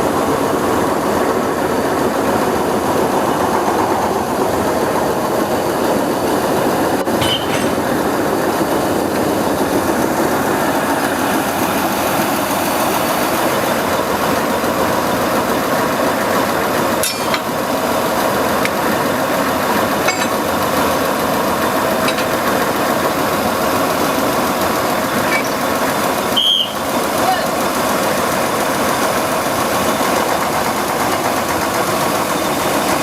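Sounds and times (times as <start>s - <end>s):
locomotive engine idling: 0.0s - 33.0s.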